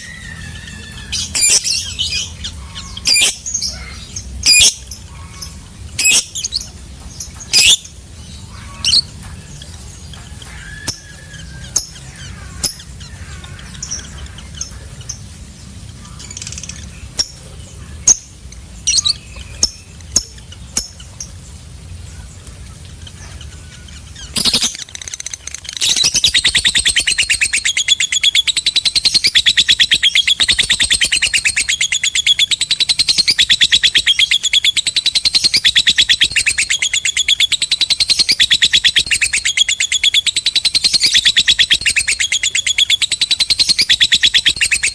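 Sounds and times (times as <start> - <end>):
bird chirping and trilling: 0.0 - 44.9.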